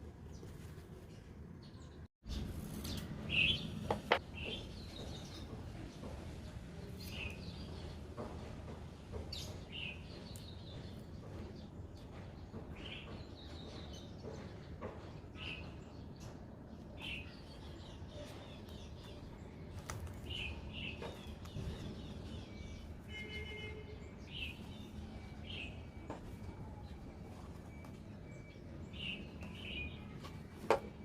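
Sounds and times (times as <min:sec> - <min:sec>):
birds chirping: 0:00.2 - 0:31.0.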